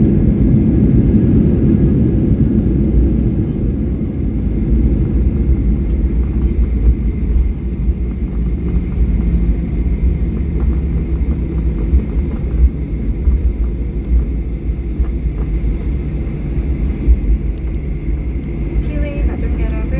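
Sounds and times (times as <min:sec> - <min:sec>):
airliner engines rumbling: 0:00.0 - 0:19.9.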